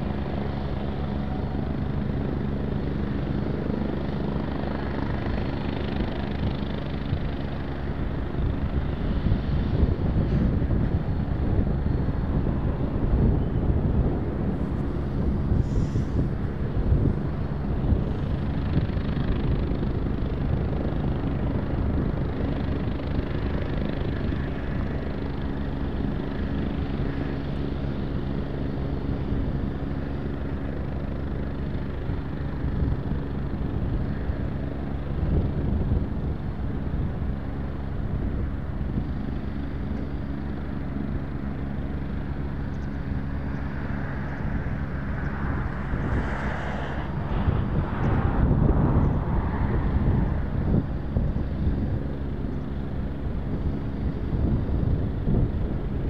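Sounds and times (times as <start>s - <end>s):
jet engines idling: 0.0s - 56.0s
wind rumbling on microphone: 0.0s - 56.0s.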